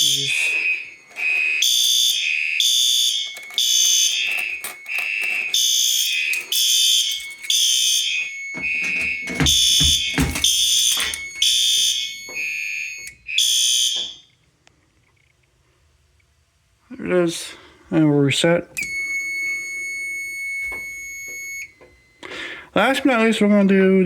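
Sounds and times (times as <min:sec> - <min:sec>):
fire alarm horns two alternating tones: 0:00.0 - 0:14.5, 0:18.8 - 0:23.9.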